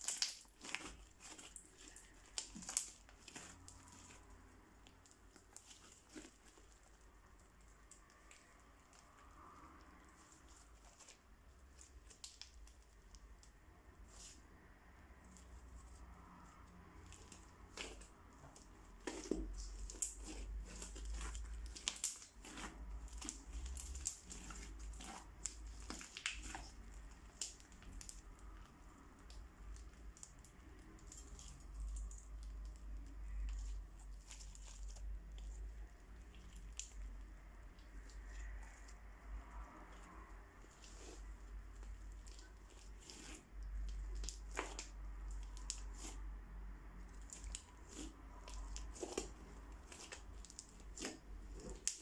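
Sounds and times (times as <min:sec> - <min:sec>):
crunchy slime crackles and pops: 0:00.0 - 0:14.4, 0:16.4 - 0:52.0
slime squelching: 0:00.0 - 0:52.0.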